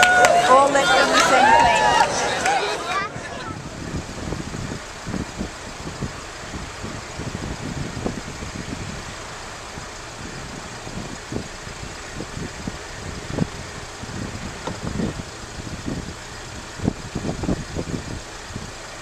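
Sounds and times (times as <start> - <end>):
low rumbles: 0.0 - 19.0
vehicle engines in traffic: 0.0 - 19.0.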